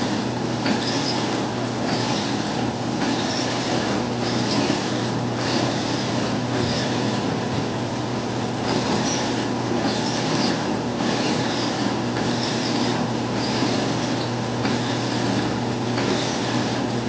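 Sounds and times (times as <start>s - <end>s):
dough rasping through rollers: 0.0s - 17.0s
dough roller motor hum: 0.0s - 17.0s.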